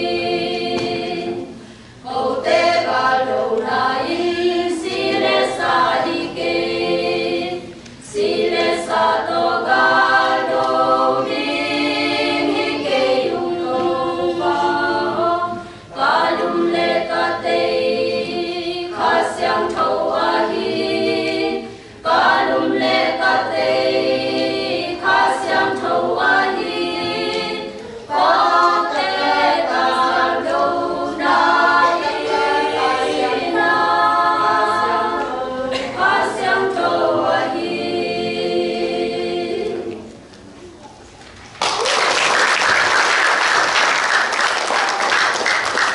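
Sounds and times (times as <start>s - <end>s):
women's choir singing: 0.0s - 40.3s.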